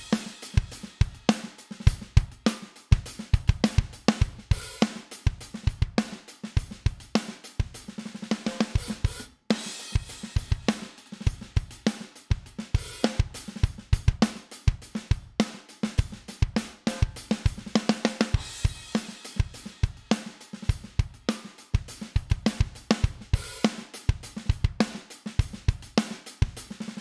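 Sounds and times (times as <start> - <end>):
drum kit groove: 0.0 - 27.0.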